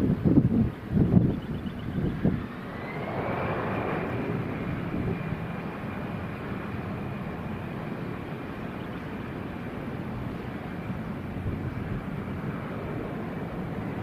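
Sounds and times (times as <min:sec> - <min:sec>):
jet engine fan whine: 0:00.0 - 0:14.0.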